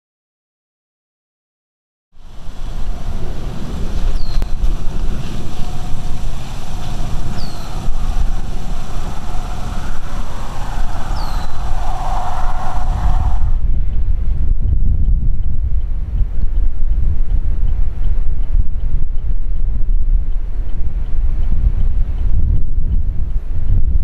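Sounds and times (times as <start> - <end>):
faint wind whistle: 2.2 - 24.0
gusty wind buffeting microphone: 2.2 - 24.0.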